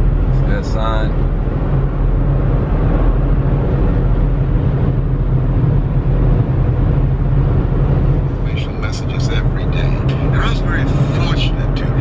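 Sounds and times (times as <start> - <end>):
car road noise at highway speed: 0.0 - 12.0.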